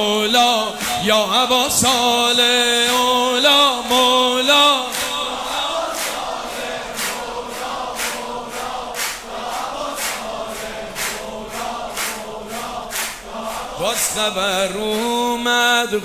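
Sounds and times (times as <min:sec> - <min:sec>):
crowd singing a devotional chant: 0:00.0 - 0:16.0
steady beat: 0:00.3 - 0:15.6.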